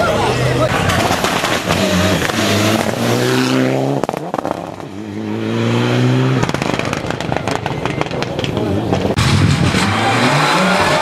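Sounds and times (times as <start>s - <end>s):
rally car engine accelerating: 0.4s - 11.0s.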